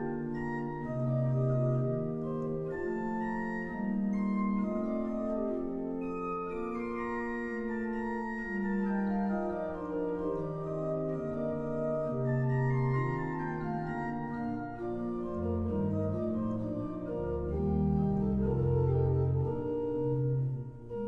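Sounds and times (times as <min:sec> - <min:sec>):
pipe organ playing sustained chords: 0:00.0 - 0:21.0.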